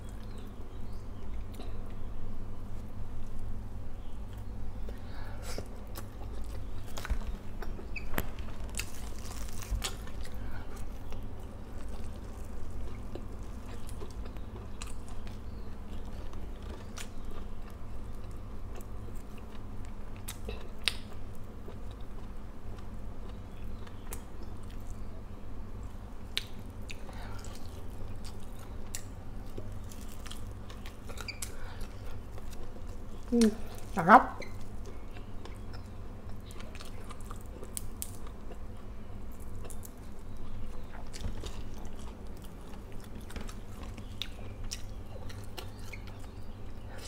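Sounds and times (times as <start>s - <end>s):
person chewing and smacking: 4.3s - 25.0s, 26.2s - 47.0s.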